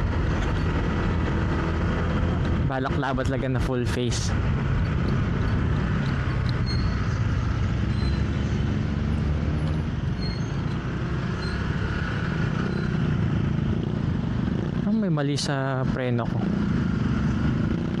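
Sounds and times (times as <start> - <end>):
wind noise: 0.0 - 14.9
motorcycle engine rumble: 0.0 - 18.0.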